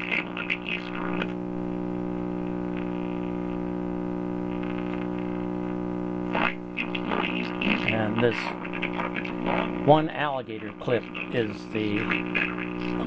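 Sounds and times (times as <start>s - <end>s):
speaker buzzing hum: 0.0s - 13.0s.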